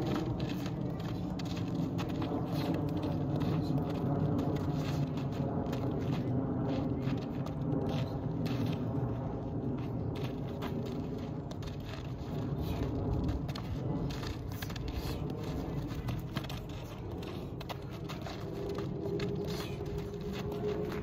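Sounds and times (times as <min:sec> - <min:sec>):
faint hum: 0:00.0 - 0:21.0
low rumble: 0:00.0 - 0:21.0
sneakers scuffing on sand: 0:00.0 - 0:21.0
soccer ball tapped on sand: 0:00.0 - 0:21.0.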